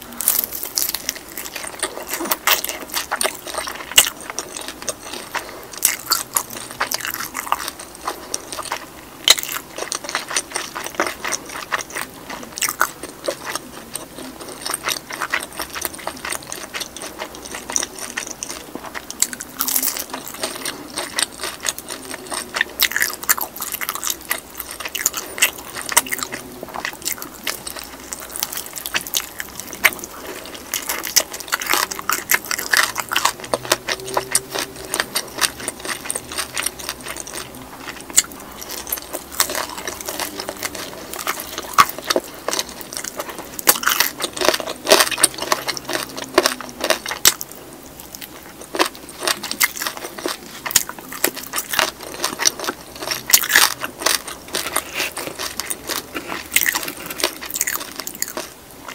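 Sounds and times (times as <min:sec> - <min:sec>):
biting and chewing fried chicken: 0:00.0 - 0:58.9.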